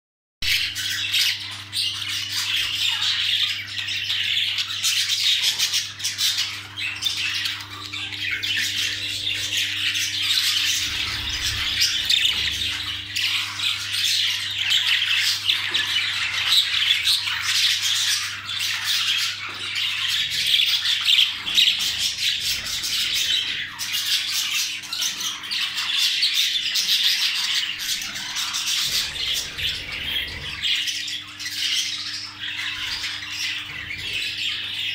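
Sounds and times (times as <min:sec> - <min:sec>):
budgerigars squawking and chattering: 0:00.4 - 0:34.9
faint steady hum: 0:00.4 - 0:34.9.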